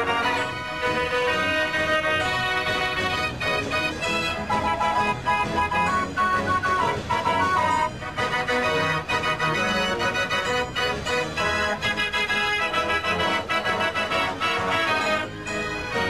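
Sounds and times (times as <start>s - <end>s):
organ music: 0.0s - 16.0s.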